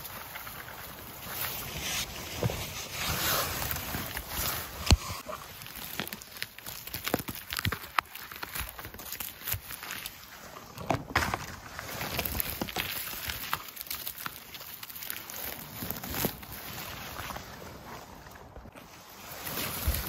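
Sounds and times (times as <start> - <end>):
rustling of moss and litter: 0.0 - 20.0.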